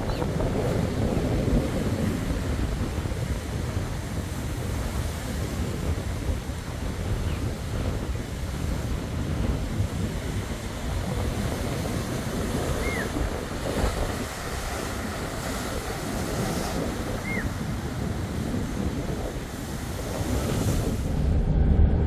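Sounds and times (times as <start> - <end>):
surf breaking on rocky shore: 0.0 - 22.0
wind rumbling on microphone: 0.0 - 22.0.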